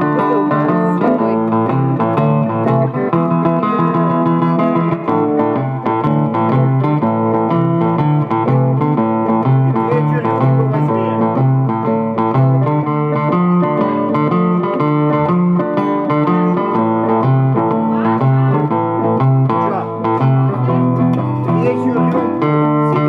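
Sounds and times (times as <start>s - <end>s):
bass notes: 0.0s - 23.0s
blues guitar: 0.0s - 23.0s.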